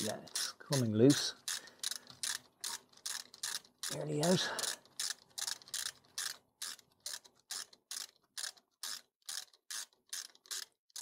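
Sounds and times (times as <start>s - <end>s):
ratchet wrench clicking: 0.0s - 11.0s.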